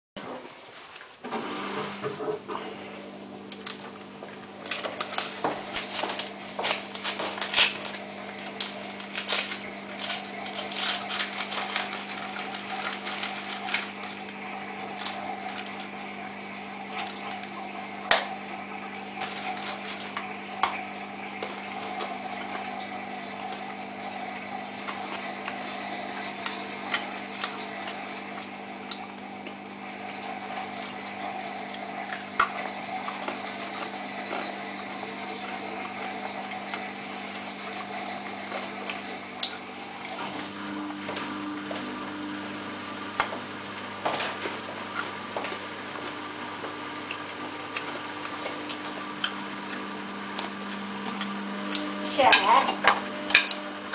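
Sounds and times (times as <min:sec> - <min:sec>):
washing machine drain pump: 0:00.2 - 0:53.9
water rushing through pump: 0:01.2 - 0:53.9.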